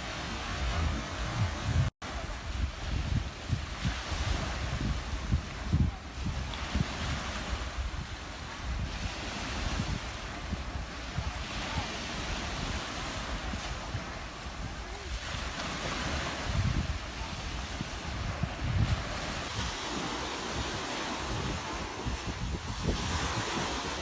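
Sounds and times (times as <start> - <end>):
ocean waves washing onto beach: 0.0 - 24.0
wind gusts on microphone: 0.0 - 24.0.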